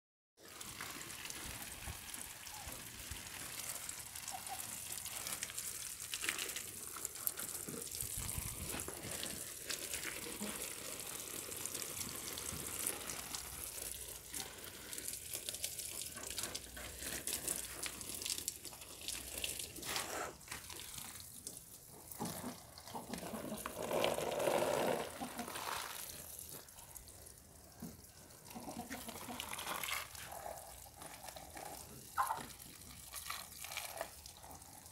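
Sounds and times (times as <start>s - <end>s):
hose water splashing on leaves: 0.4s - 34.9s.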